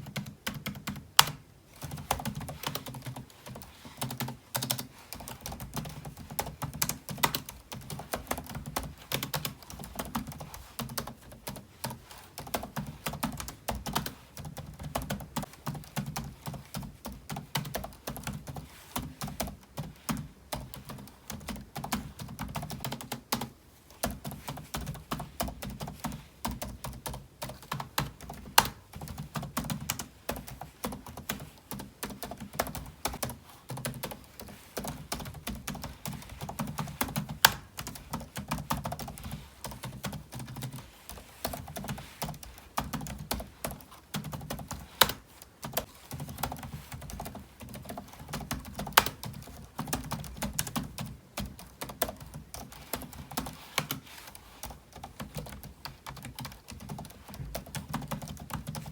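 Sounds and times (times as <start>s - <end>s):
typing on keyboard: 0.0s - 58.9s.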